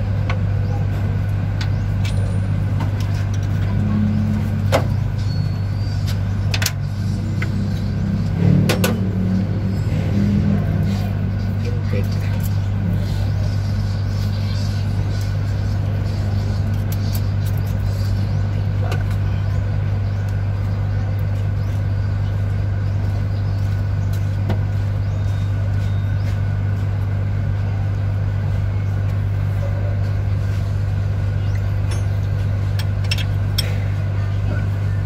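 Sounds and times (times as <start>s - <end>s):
low machine drone: 0.0s - 35.0s.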